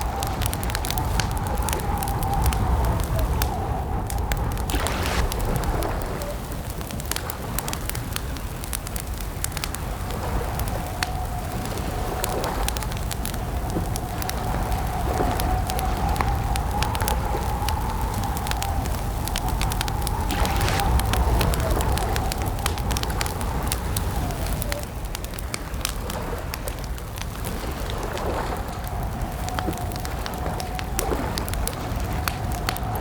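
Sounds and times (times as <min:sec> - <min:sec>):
campfire crackling and popping: 0:00.0 - 0:33.0
steady low rumble: 0:00.0 - 0:33.0.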